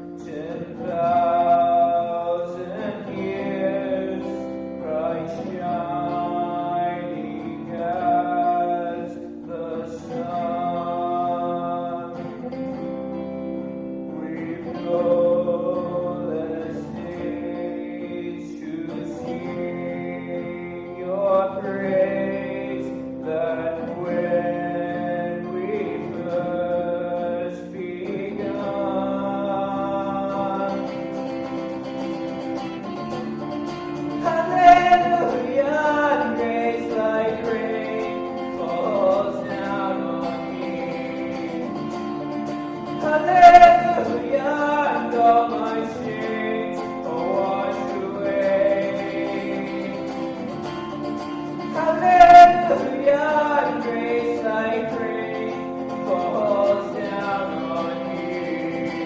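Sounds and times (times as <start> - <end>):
man singing worship song: 0.0 - 12.6, 14.1 - 31.3, 34.1 - 42.0, 42.9 - 50.4, 51.6 - 59.0
strummed acoustic guitar: 0.0 - 59.0.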